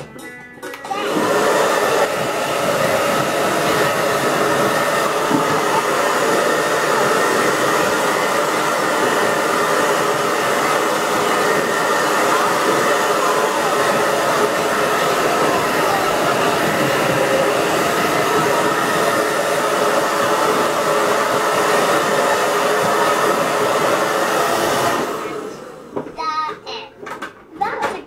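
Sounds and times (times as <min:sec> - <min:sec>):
hair dryer blowing: 0:00.8 - 0:26.2.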